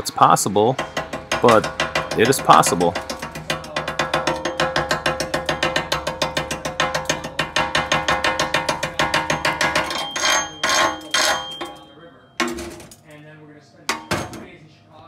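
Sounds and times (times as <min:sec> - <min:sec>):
chipping hammer tapping on metal: 0:00.7 - 0:13.0, 0:13.9 - 0:14.5
metal box ringing: 0:00.8 - 0:13.1, 0:13.9 - 0:14.6.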